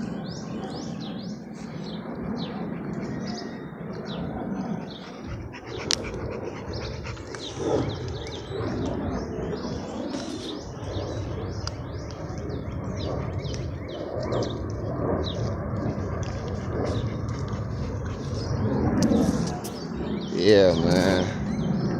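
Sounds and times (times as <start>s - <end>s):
low rumble: 0.0s - 20.4s
small birds chirping: 0.0s - 21.9s.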